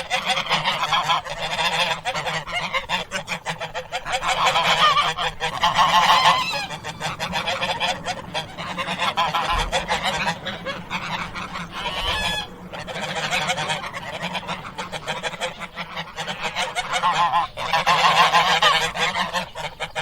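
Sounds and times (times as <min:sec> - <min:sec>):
flock of waterfowl calling: 0:00.0 - 0:20.0.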